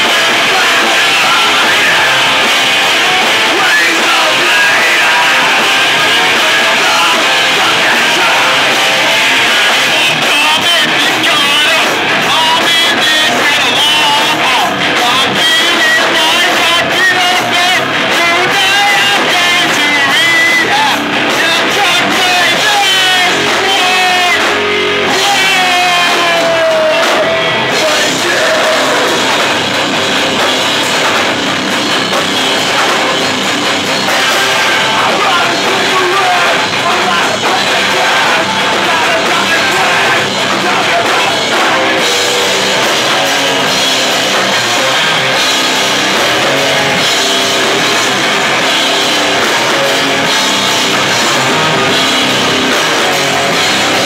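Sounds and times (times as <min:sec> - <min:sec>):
person singing: 0:00.0 - 0:31.4, 0:32.3 - 0:54.0
bass guitar: 0:00.0 - 0:54.0
drum kit: 0:00.0 - 0:54.0
electric guitar: 0:00.0 - 0:54.0.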